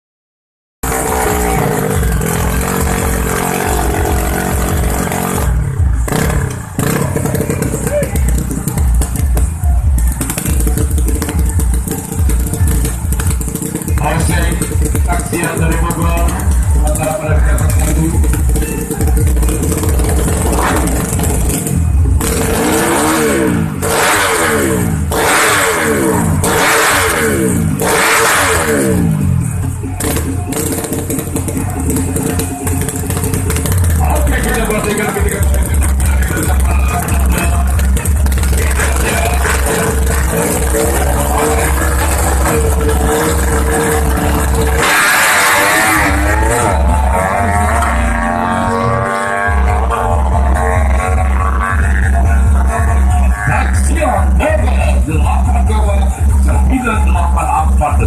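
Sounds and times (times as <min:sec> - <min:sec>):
motorcycle engine revving: 0:00.8 - 0:58.0.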